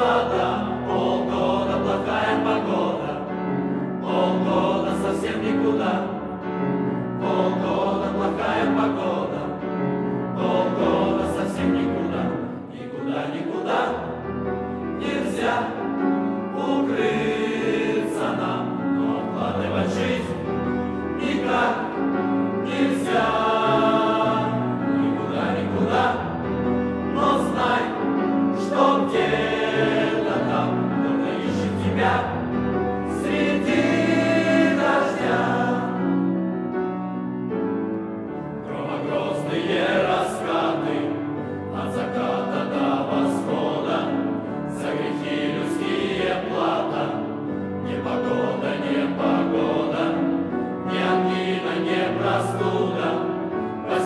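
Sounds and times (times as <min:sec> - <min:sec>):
mixed choir singing: 0:00.0 - 0:36.9, 0:38.2 - 0:54.0.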